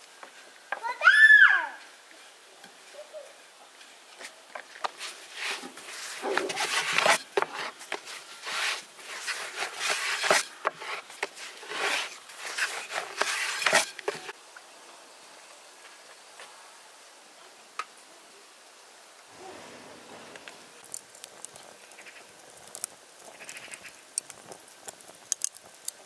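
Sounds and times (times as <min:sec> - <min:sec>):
faint outdoor background: 0:00.0 - 0:26.0.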